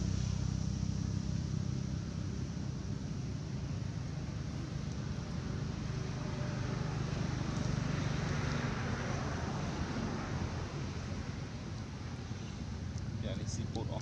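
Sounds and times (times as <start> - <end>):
low motor-like rumble: 0.0 - 14.0.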